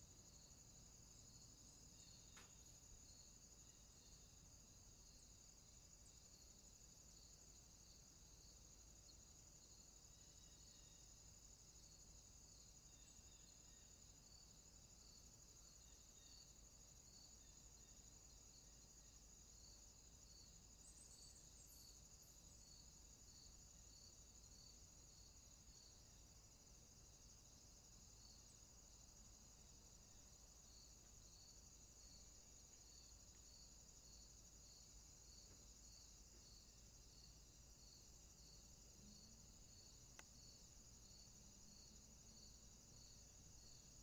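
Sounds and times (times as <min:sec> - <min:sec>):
soft insect chirps: 0:00.0 - 0:44.0.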